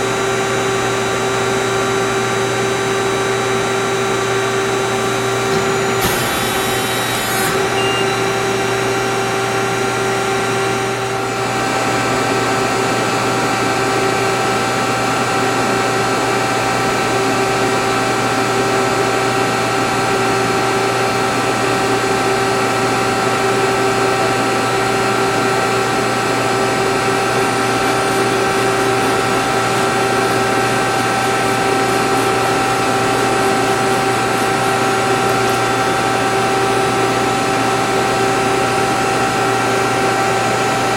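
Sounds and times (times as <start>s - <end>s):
hydraulic pump and motor hum: 0.0s - 40.9s.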